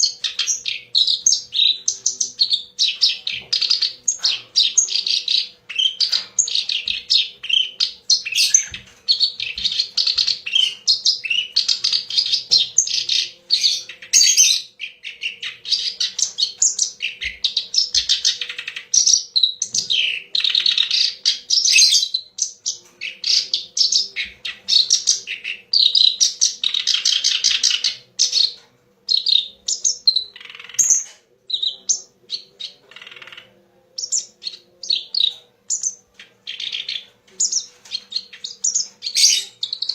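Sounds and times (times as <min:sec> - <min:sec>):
warbler singing chattering song: 0:00.0 - 0:39.9.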